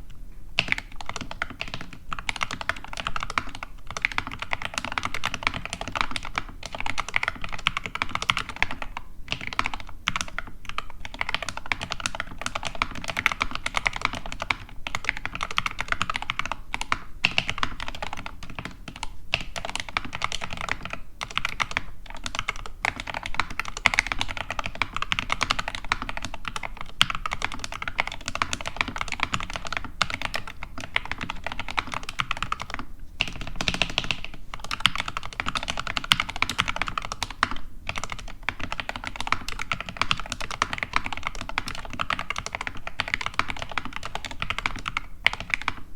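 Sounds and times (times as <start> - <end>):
fast mechanical keyboard typing: 0.6 - 45.9.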